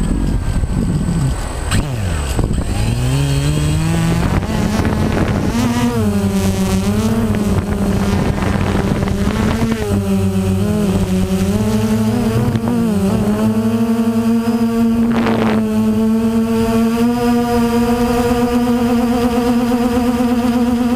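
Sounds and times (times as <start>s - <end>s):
drone propellers whining: 0.0s - 20.9s.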